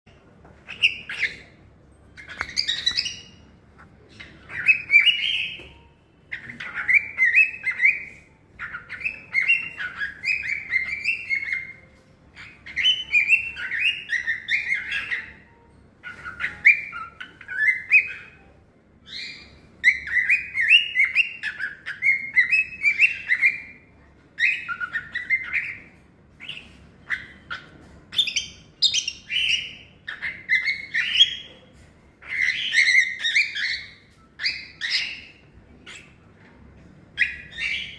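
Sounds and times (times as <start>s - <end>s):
cockatiel chirping and whistling: 0.6s - 1.6s, 2.2s - 3.4s, 4.1s - 23.8s, 24.4s - 31.6s, 32.2s - 36.2s, 37.2s - 37.9s.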